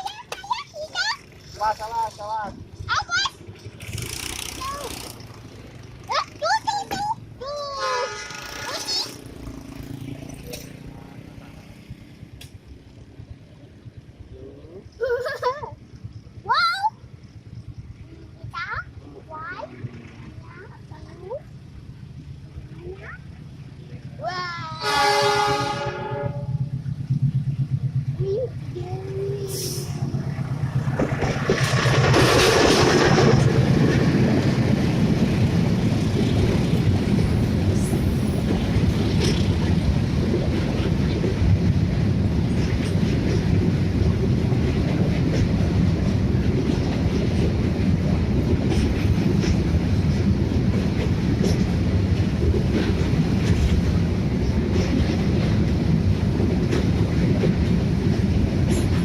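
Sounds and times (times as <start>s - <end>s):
wheels clattering over rail joints: 0.0s - 14.2s, 25.6s - 59.0s
freight train rumbling past: 0.0s - 59.0s.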